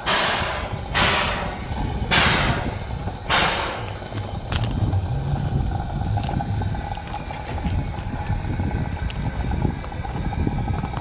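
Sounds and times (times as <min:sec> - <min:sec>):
locomotive low rumble: 0:00.0 - 0:11.0
steam locomotive exhaust chuffs: 0:00.0 - 0:11.0.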